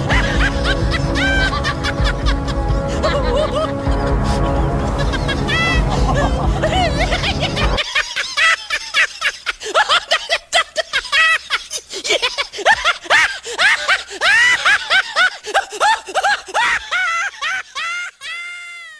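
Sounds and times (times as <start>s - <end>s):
men laughing hard: 0.0s - 18.9s.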